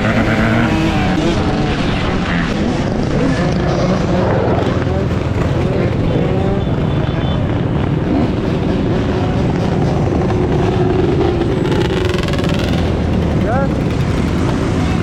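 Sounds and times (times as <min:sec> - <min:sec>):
dirt bike engines running: 0:00.0 - 0:15.0.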